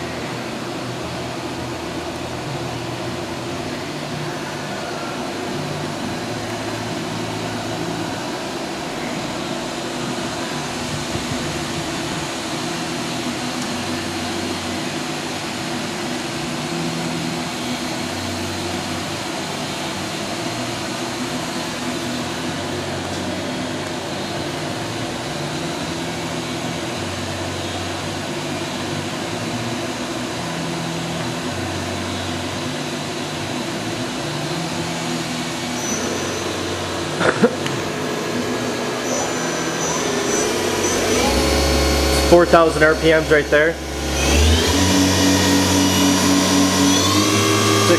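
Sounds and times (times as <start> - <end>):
low hum shifting pitch: 0.0 - 47.9
machining center humming and hissing: 0.0 - 47.9.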